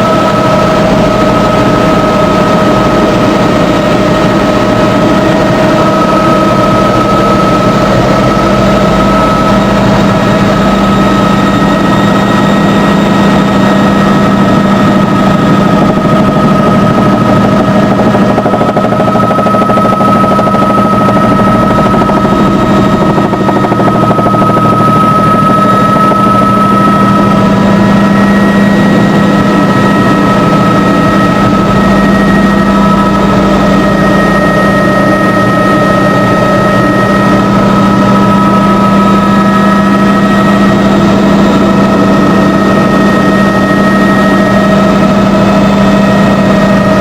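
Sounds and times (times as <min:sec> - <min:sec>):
helicopter engine and rotors: 0:00.0 - 0:47.0.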